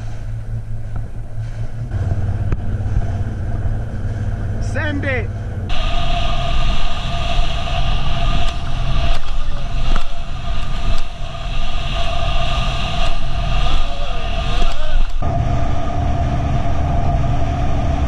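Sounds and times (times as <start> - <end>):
faint wavering whine: 0.0 - 18.0
motorboat engine drone: 0.0 - 18.0
wind on microphone: 0.0 - 18.0.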